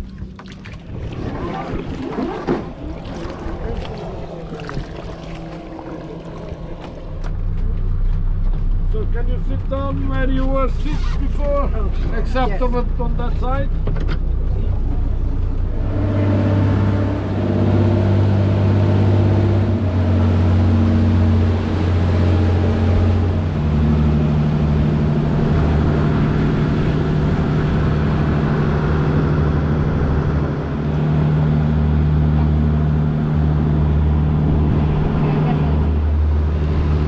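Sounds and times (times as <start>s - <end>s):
boat engine running: 0.0s - 37.0s
water rushing past hull: 0.0s - 37.0s.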